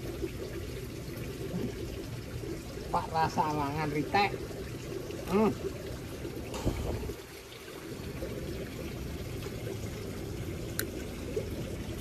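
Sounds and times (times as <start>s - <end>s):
water trickling and pouring: 0.0s - 12.0s.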